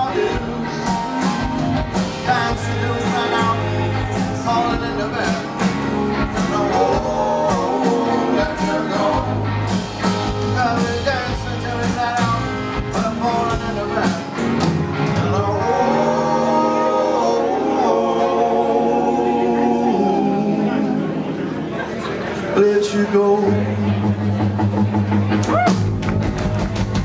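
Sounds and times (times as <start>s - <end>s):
man singing lead vocal: 0.0s - 1.4s, 2.0s - 21.3s, 22.5s - 24.0s
live rock band playing: 0.0s - 19.5s, 20.1s - 27.0s.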